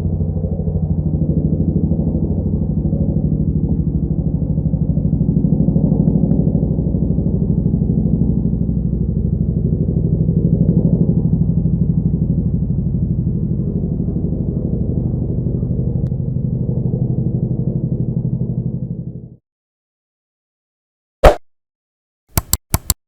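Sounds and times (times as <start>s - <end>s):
helicopter rotor blades beating: 0.0s - 19.3s.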